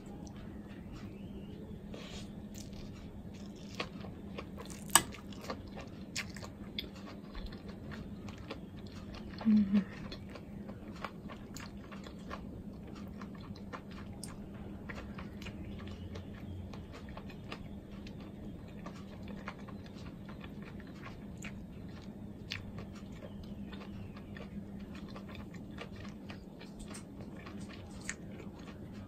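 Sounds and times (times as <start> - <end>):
steady low hum: 0.0 - 29.0
person chewing food: 0.2 - 29.0.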